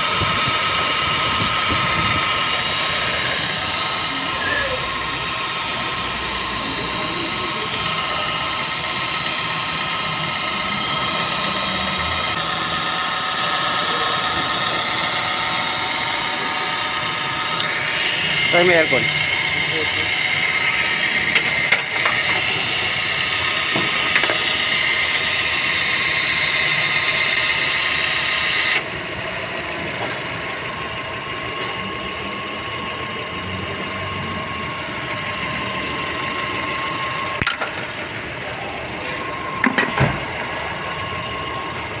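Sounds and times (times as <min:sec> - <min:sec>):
car engine idling: 0:00.0 - 0:39.6
grinding whine with hiss: 0:00.0 - 0:42.0.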